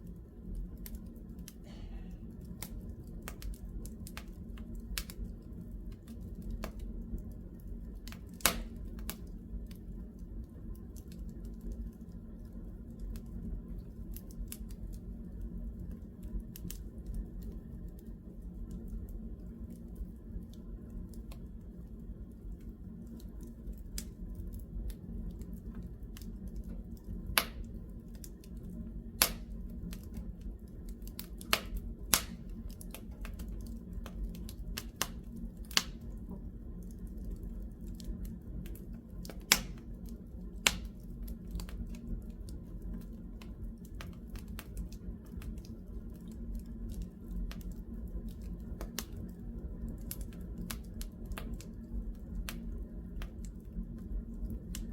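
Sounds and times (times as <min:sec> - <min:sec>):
fire snaps and pops: 0:00.0 - 0:54.9
wood fire crackling: 0:00.0 - 0:54.9.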